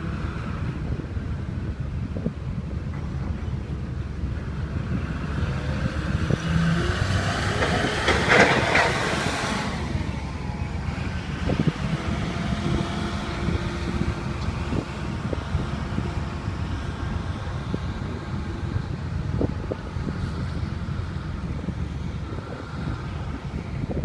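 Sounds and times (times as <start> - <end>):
ferry engine low rumble: 0.0 - 24.0
wind on microphone: 0.0 - 24.0.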